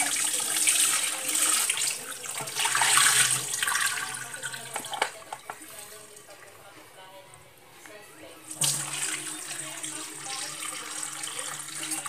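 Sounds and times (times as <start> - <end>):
water running and splashing: 0.0 - 6.4, 8.5 - 12.0.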